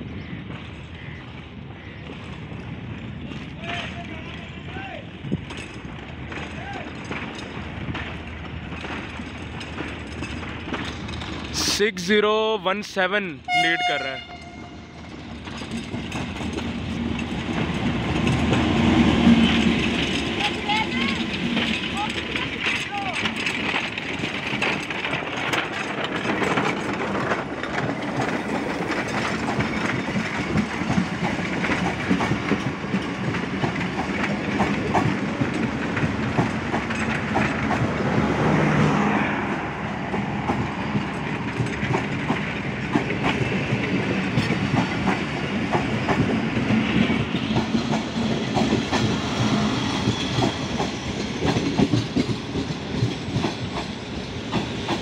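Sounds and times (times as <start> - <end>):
train wheels clicking over rail joints: 0.4 - 11.9, 14.3 - 55.0.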